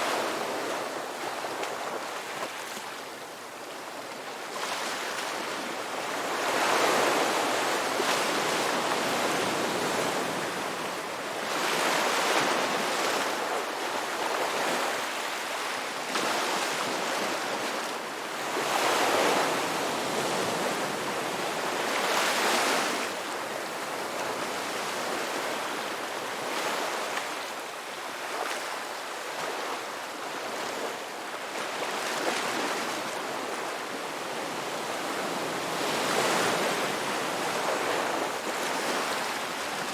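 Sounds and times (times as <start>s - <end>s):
ocean surf breaking on a beach: 0.0s - 39.9s.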